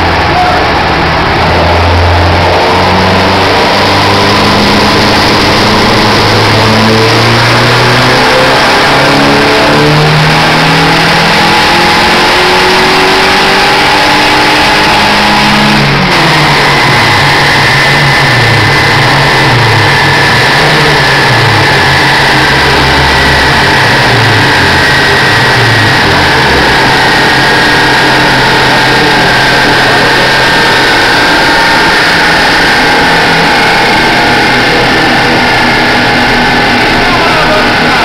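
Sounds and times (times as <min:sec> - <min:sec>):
car engine revving under load: 0:00.0 - 0:38.0
steady high whine: 0:00.0 - 0:38.0.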